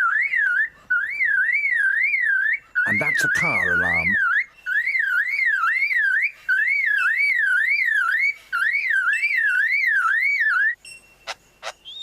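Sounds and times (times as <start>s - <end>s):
lyrebird mimicking a car alarm: 0.0s - 12.0s.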